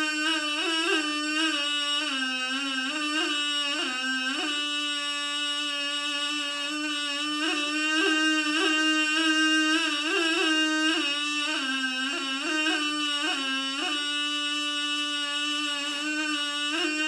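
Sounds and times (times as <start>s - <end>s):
vessel flute melody: 0.0s - 17.0s.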